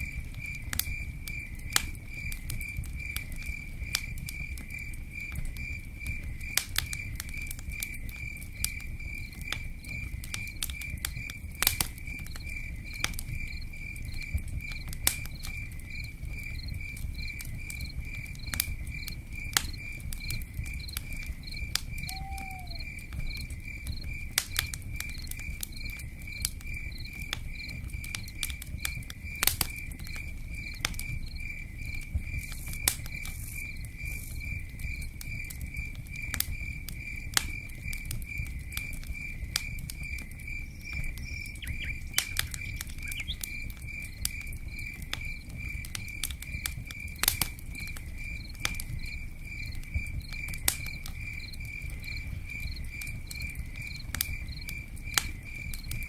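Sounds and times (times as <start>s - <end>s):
cricket chirping: 0.0s - 56.0s
sharp crackles and pops: 0.0s - 56.0s.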